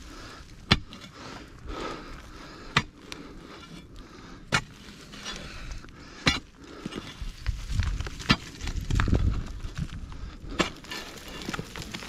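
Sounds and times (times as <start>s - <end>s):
earth scraping: 0.0s - 12.0s.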